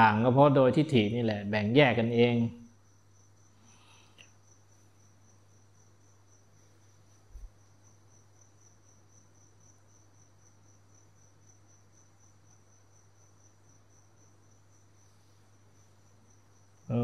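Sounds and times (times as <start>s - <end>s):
cricket trilling: 0.0s - 17.0s
low electrical hum: 0.0s - 17.0s.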